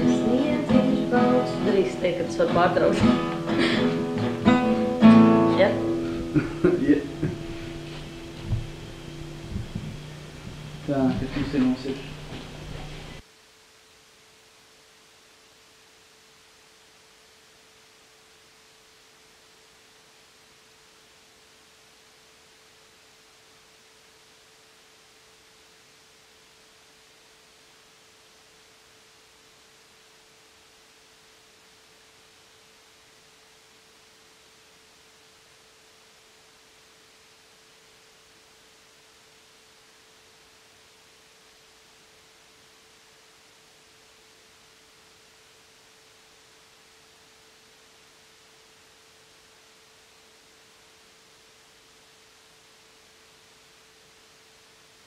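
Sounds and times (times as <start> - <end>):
constant electrical hum tone: 0.0 - 55.0
faint electrical hiss: 0.0 - 55.0.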